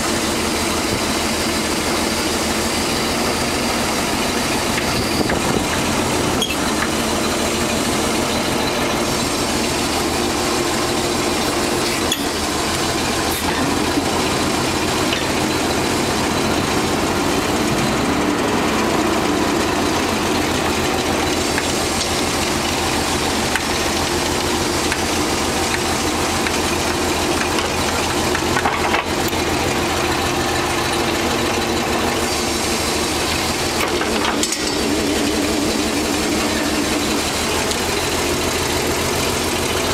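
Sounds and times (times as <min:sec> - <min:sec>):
forklift engine running: 0:00.0 - 0:39.9.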